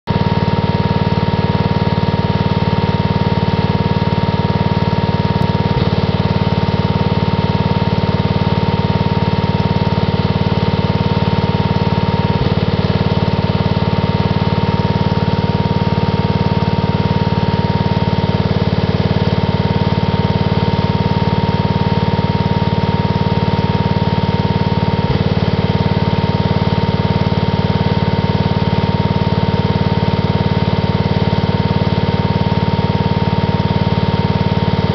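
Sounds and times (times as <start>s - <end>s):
generator engine running: 0.0s - 34.9s.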